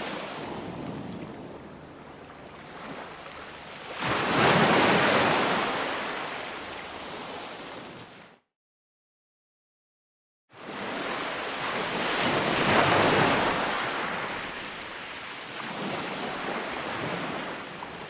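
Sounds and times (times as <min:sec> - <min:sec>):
ocean waves crashing: 0:00.0 - 0:07.9, 0:10.8 - 0:17.7.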